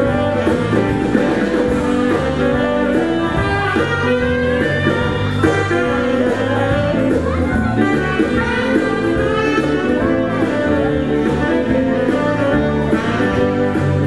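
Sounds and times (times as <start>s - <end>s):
amplified band accompaniment: 0.0s - 14.0s.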